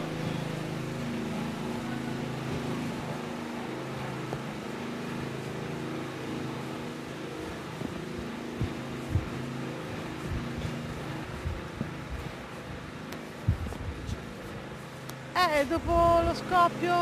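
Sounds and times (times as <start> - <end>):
engine droning hum: 0.0 - 17.0.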